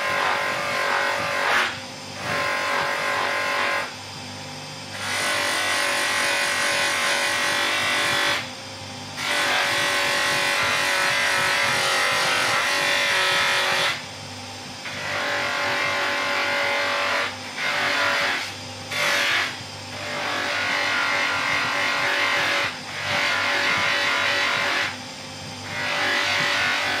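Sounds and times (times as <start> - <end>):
sharpening machine motor hum: 0.0 - 27.0.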